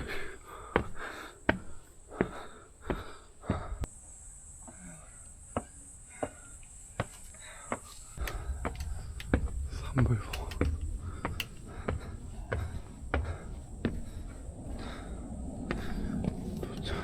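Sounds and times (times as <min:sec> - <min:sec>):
footsteps on a trail: 0:00.0 - 0:03.9, 0:05.5 - 0:17.0
heavy panting breaths: 0:00.0 - 0:03.9, 0:04.9 - 0:17.0
high insect trill: 0:00.0 - 0:17.0.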